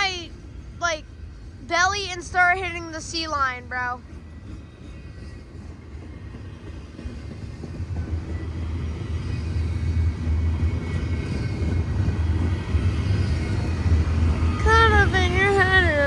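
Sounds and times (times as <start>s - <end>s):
freight train cars rumbling: 0.0s - 16.0s.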